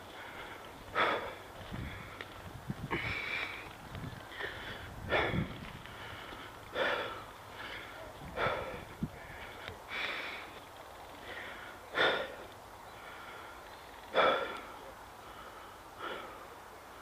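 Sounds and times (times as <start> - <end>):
person breathing hard: 0.0 - 10.6, 11.2 - 17.0.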